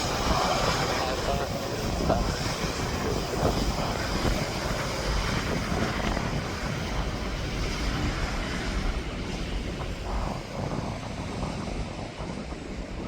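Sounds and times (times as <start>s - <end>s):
aircraft engine hum: 0.0s - 13.0s
wind buffeting microphone: 0.0s - 13.0s.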